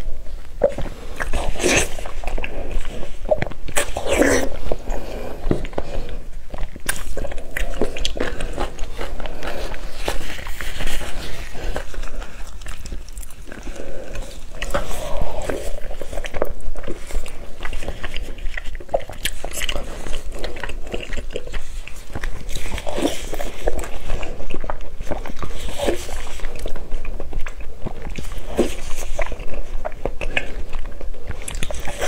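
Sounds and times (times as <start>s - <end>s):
person chewing meat: 0.0s - 32.0s
wet mouth sounds: 0.0s - 32.0s.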